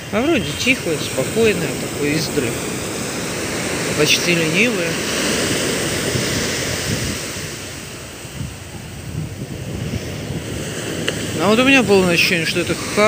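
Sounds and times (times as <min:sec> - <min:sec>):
sea surf breaking on beach: 0:00.0 - 0:13.0.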